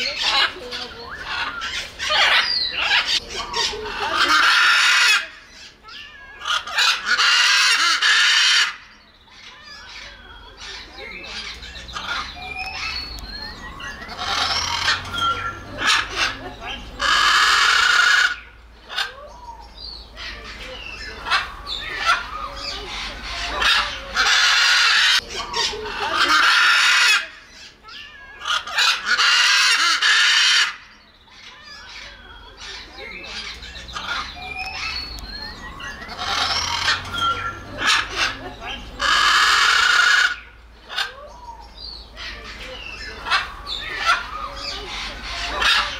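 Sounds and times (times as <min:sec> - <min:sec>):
macaw squawking: 0:00.0 - 0:19.2, 0:20.2 - 0:45.9.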